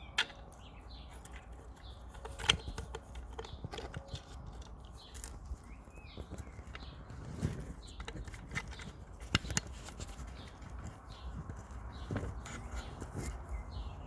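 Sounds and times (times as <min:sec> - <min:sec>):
metal parts clicking and tapping: 0:00.0 - 0:13.4.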